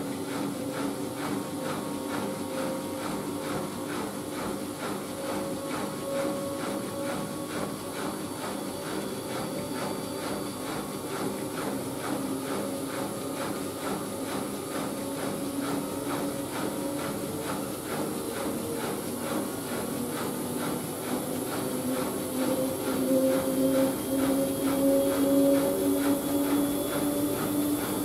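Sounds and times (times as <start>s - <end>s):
washing machine running: 0.0s - 28.0s.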